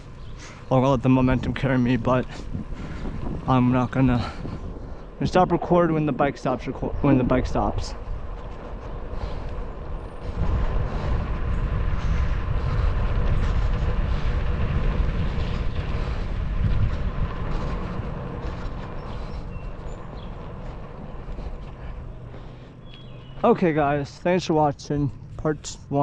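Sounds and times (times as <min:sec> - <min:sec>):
bicycle tyres rolling on road: 0:00.0 - 0:26.0
wind buffeting microphone: 0:00.0 - 0:26.0.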